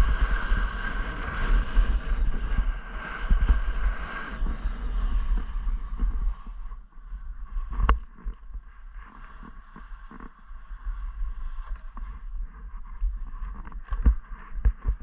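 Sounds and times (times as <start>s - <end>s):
skis scraping on snow: 0.0s - 15.0s
wind buffeting microphone: 0.0s - 15.0s.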